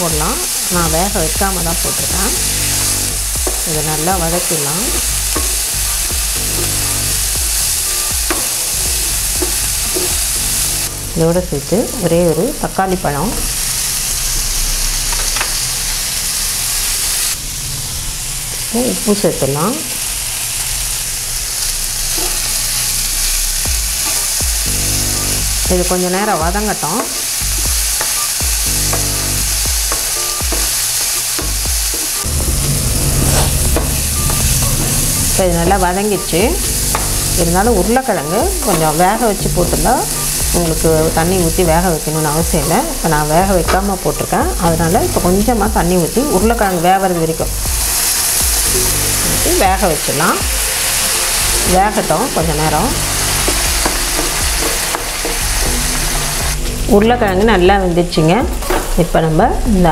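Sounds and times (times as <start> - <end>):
food sizzling in hot oil: 0.0 - 57.1.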